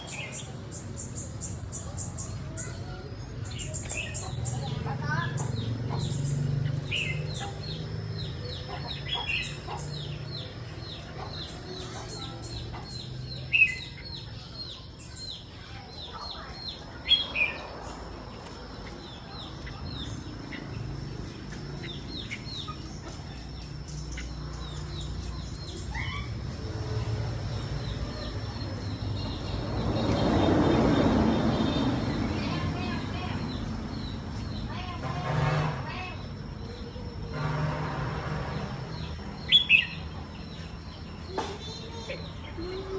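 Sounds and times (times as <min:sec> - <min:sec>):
bird high chirps: 0:00.0 - 0:35.2, 0:35.8 - 0:42.9.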